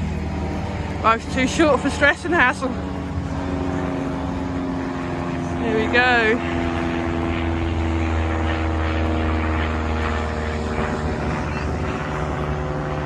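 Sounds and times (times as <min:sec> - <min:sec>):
higher-pitched low hum: 0:00.0 - 0:13.0.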